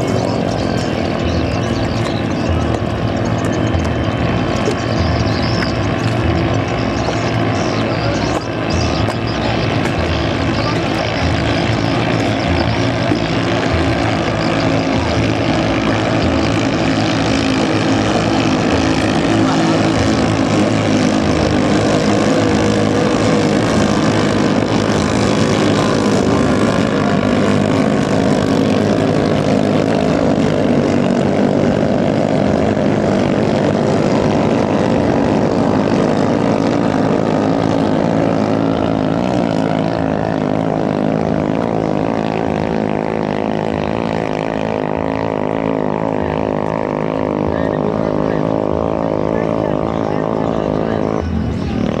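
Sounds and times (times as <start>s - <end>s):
boat engines droning: 0.0s - 52.0s.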